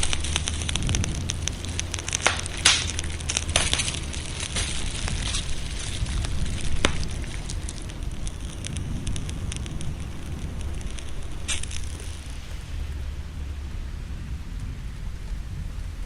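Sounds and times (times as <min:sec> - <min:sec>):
low rumble: 0:00.0 - 0:16.0
rain hissing: 0:00.0 - 0:16.0
wood fire crackling and popping: 0:00.0 - 0:16.0.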